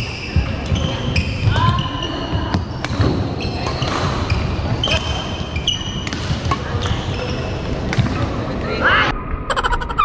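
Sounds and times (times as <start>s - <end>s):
shoes squeaking on court: 0.0s - 8.2s.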